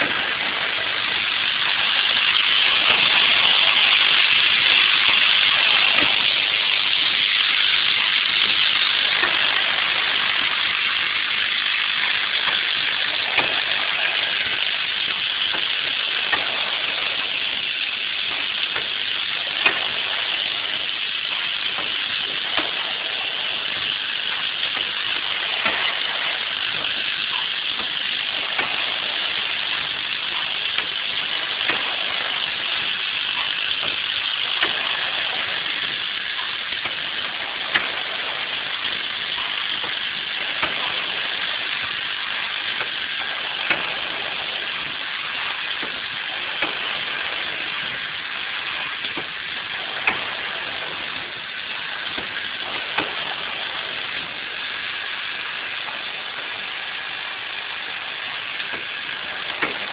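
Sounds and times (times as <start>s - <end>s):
machine clicking: 0.0s - 59.9s
machinery hiss: 0.0s - 59.9s.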